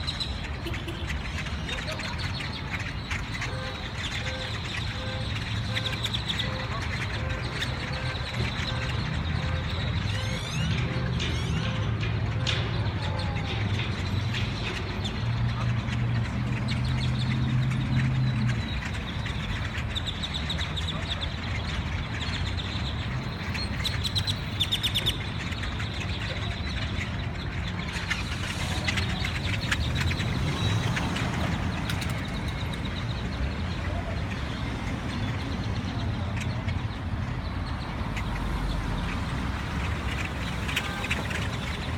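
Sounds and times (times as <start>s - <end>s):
flock of birds chirping: 0.0s - 41.9s
low rumble of vehicles: 0.0s - 41.9s.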